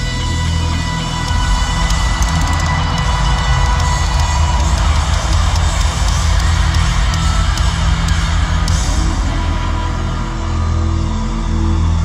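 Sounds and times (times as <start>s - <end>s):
distorted electric guitar: 0.0s - 12.0s
drums: 0.0s - 12.0s
heavy bass: 0.0s - 12.0s.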